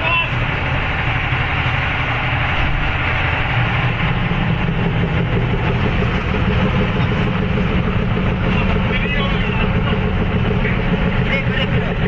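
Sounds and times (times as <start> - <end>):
heavy engine running: 0.0 - 12.0.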